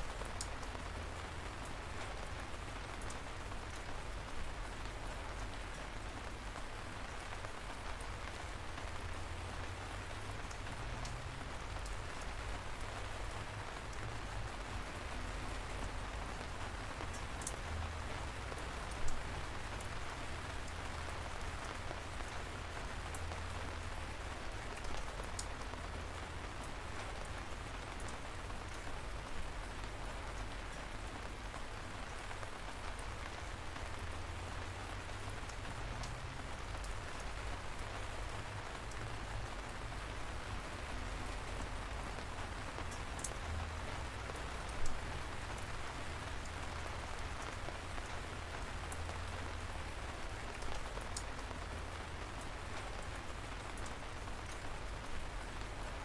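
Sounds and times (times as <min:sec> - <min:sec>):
light rain hissing: 0:00.0 - 0:56.0
raindrops ticking: 0:00.0 - 0:56.0.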